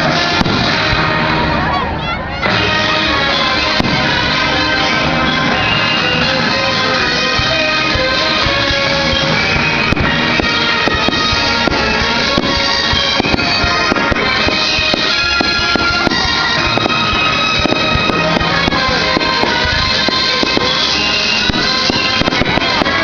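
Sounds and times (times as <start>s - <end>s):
fireworks popping and crackling: 0.0s - 1.8s, 2.4s - 23.0s
loud music with sustained tones: 0.0s - 23.0s.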